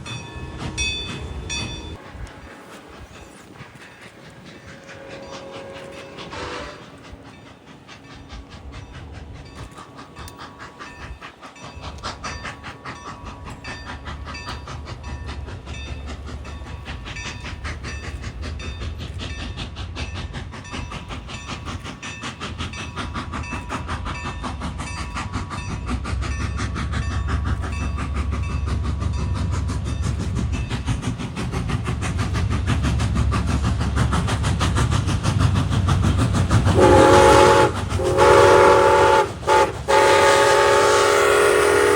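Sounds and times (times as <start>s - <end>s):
diesel train engine rumble: 0.0s - 41.9s.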